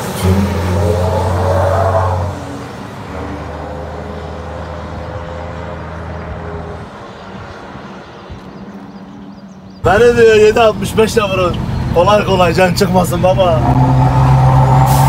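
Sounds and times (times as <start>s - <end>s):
truck diesel engine droning: 0.0s - 8.0s, 9.8s - 15.0s
tyre and road noise: 0.0s - 15.0s.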